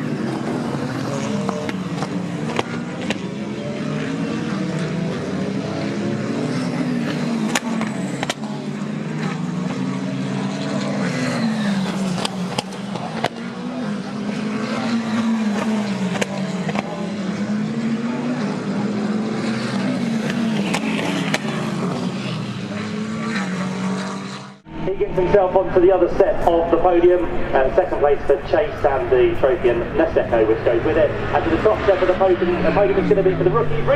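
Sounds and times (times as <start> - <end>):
race car engines revving: 0.0 - 33.9.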